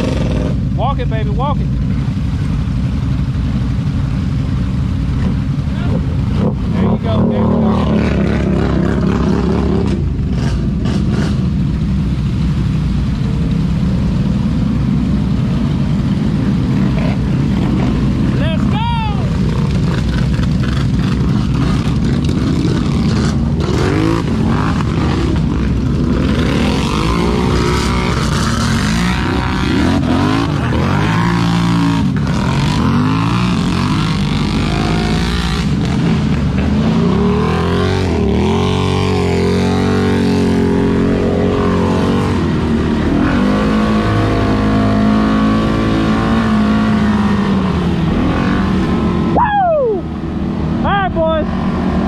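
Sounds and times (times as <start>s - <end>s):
atv engine revving: 0.0s - 2.6s, 3.4s - 52.0s
steady rushing noise: 0.0s - 52.0s.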